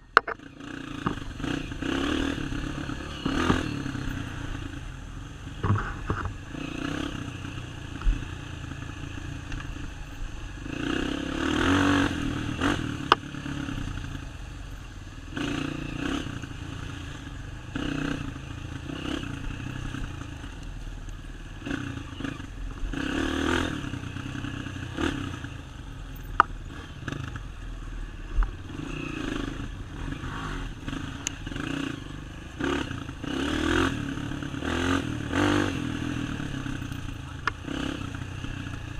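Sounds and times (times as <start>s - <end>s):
motocross bike engine revving: 0.2s - 38.9s.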